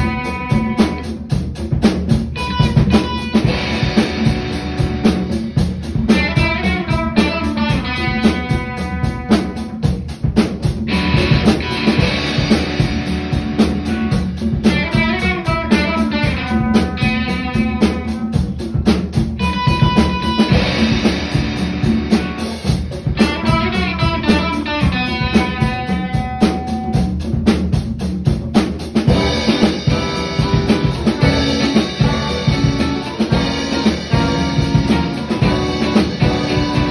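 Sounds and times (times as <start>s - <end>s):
drum kit beat: 0.0s - 36.9s
rock music: 0.0s - 36.9s.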